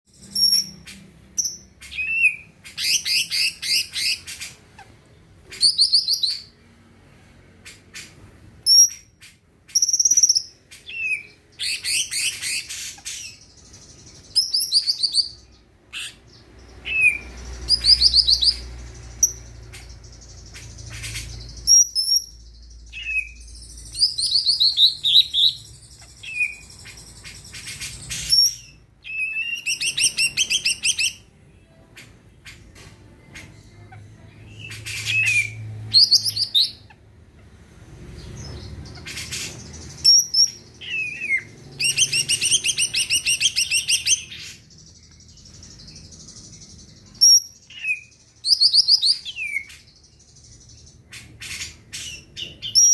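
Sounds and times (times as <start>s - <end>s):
bird whistling and chirping: 0.1s - 4.6s, 5.5s - 6.5s, 9.7s - 16.2s, 16.8s - 31.2s, 34.5s - 36.9s, 38.4s - 52.9s.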